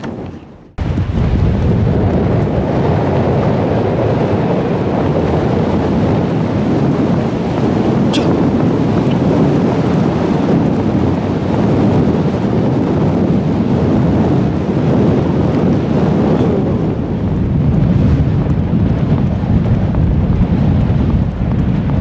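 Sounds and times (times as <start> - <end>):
vehicle rumbling on dirt track: 0.0 - 22.0
wind buffeting microphone: 0.0 - 22.0.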